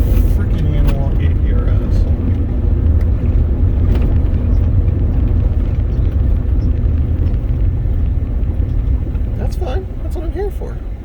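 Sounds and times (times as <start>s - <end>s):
road and engine rumble in cab: 0.0s - 11.0s.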